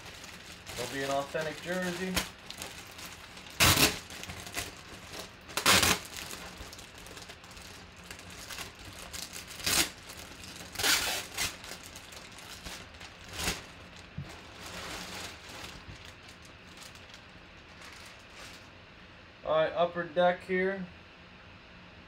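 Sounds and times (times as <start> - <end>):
plastic bag crinkling: 0.0 - 18.8.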